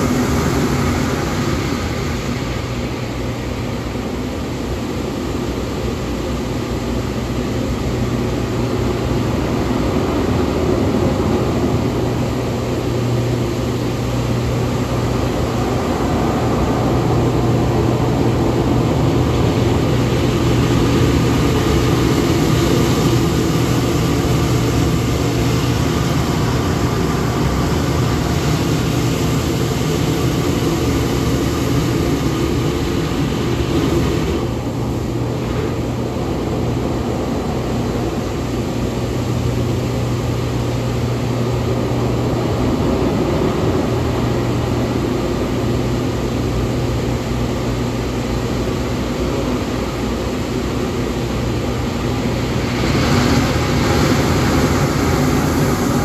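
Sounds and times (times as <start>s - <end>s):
pump and water jets humming: 0.0s - 56.0s.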